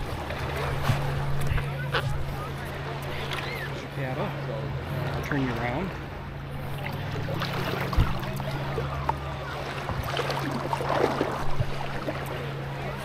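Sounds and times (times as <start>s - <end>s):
low steady hum: 0.0s - 13.0s
paddle strokes splashing: 0.0s - 13.0s
water lapping against board: 0.0s - 13.0s.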